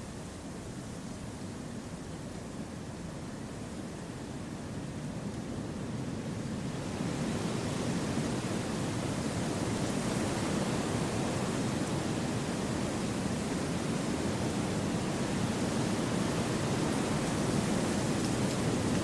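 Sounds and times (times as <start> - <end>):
wind through forest: 0.0 - 19.0.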